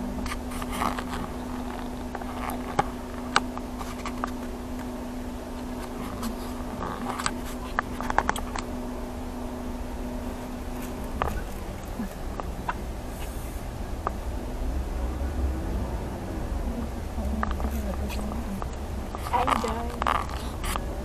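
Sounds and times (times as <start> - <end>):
car engine and road rumble: 0.0 - 21.0
constant hum: 0.0 - 21.0.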